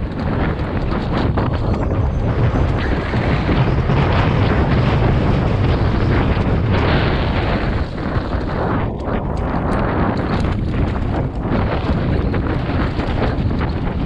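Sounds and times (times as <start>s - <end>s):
tyre rumble: 0.0s - 14.0s
wind buffeting on microphone: 0.0s - 14.0s.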